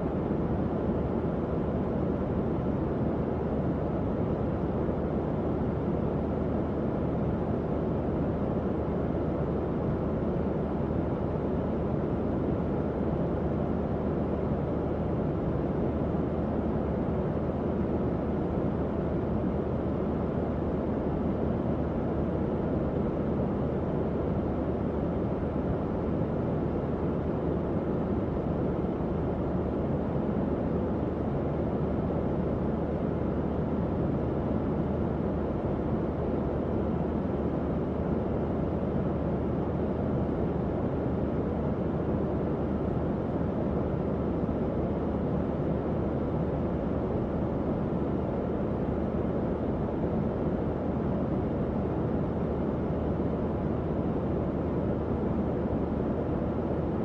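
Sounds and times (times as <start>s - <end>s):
fan blowing air: 0.0s - 57.0s.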